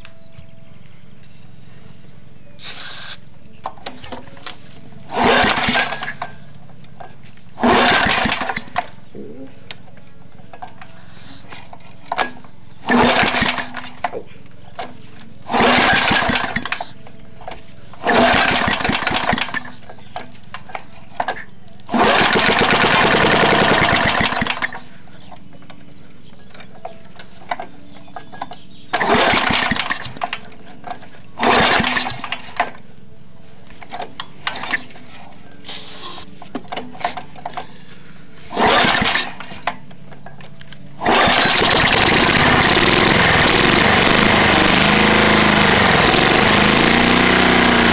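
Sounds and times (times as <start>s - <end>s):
lawn mower engine sputtering: 2.6s - 47.9s.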